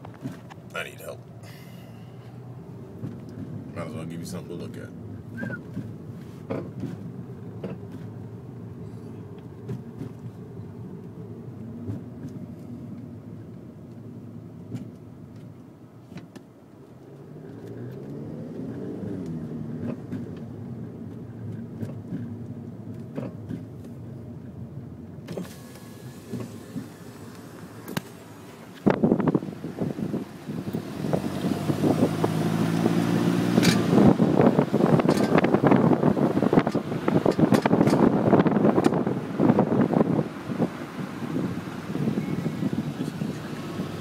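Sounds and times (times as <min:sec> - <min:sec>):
car engine and exhaust drone: 0:00.0 - 0:44.0
road noise: 0:00.0 - 0:44.0.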